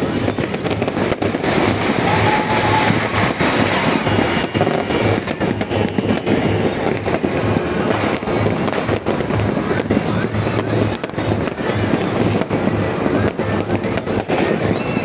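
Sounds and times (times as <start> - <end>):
fireworks and firecrackers banging: 0.0 - 15.0.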